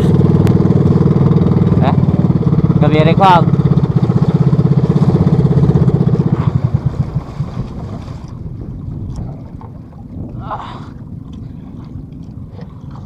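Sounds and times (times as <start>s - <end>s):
boat engine pulsing: 0.0s - 13.0s
water washing along a hull: 0.0s - 13.0s
wind: 0.0s - 13.0s.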